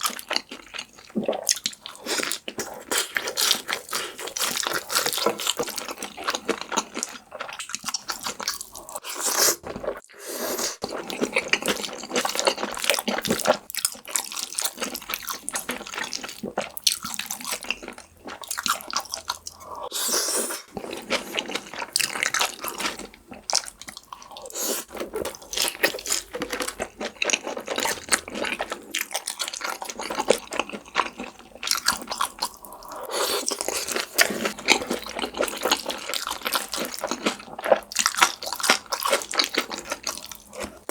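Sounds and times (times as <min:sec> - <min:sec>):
wet chewing and crunching: 0:00.0 - 0:10.1, 0:10.8 - 0:19.9, 0:20.7 - 0:40.9.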